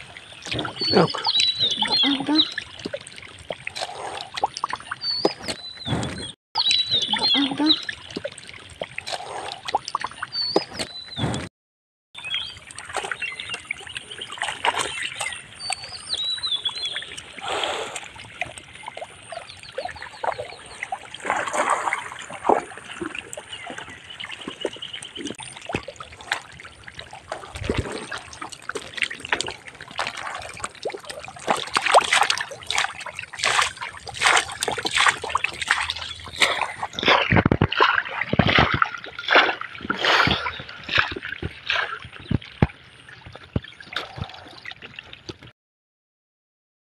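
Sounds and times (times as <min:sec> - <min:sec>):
fish splashing in muddy water: 0:00.0 - 0:11.5, 0:12.4 - 0:45.3.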